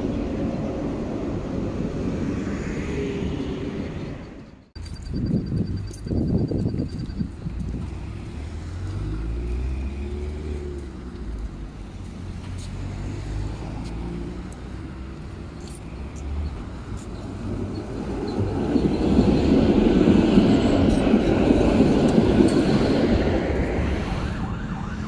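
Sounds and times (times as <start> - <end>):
wheels rumbling on rails: 0.0 - 25.0.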